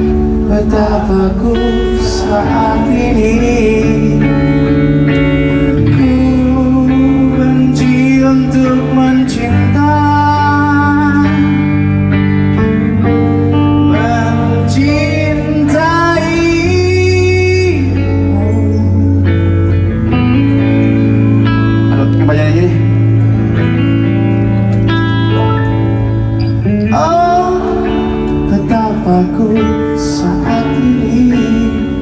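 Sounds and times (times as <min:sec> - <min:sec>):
person singing: 0:00.0 - 0:12.1, 0:12.9 - 0:19.8, 0:21.2 - 0:23.6, 0:26.8 - 0:32.0
live rock band playing: 0:00.0 - 0:32.0.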